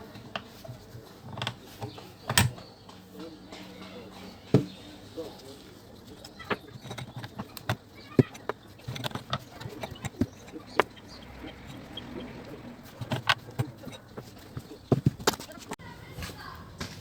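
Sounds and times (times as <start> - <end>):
hard objects knocking and clicking: 0.0 - 15.8.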